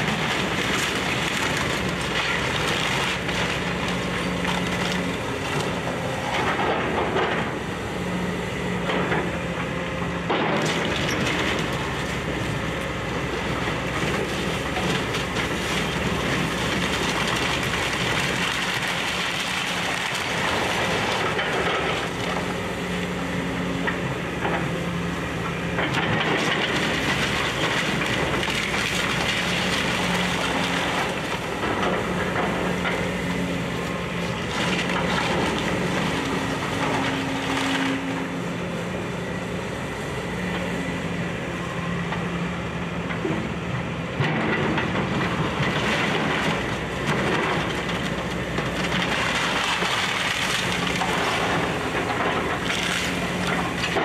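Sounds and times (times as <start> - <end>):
wood and debris crunching: 0.0 - 7.6, 10.2 - 24.8, 25.7 - 38.3, 44.2 - 54.0
excavator diesel engine running: 0.0 - 54.0.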